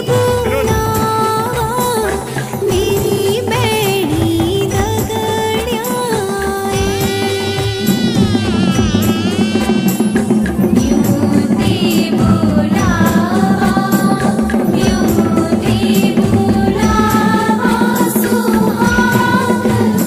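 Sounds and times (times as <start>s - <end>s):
woman singing folk song: 0.0s - 7.8s, 10.7s - 20.0s
steady drumming: 0.0s - 20.0s.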